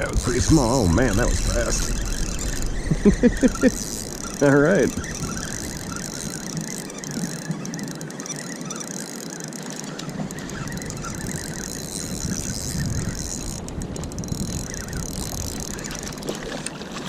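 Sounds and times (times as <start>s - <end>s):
fishing reel gears whirring: 0.0s - 16.7s.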